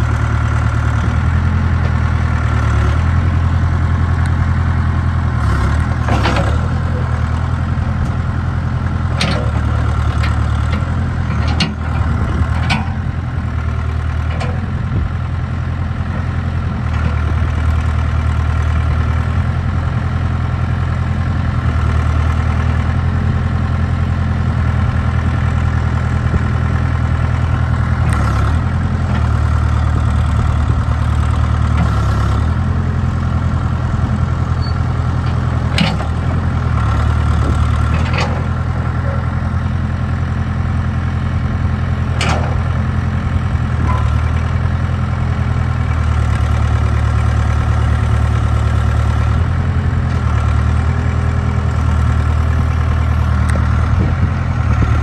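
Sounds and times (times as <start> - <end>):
backhoe diesel engine: 0.0 - 55.0.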